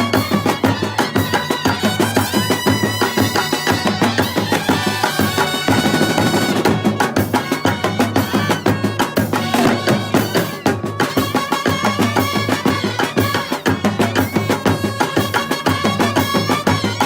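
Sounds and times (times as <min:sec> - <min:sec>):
brass horns playing a tune: 0:00.0 - 0:14.4
fast steady drumming: 0:00.0 - 0:17.0.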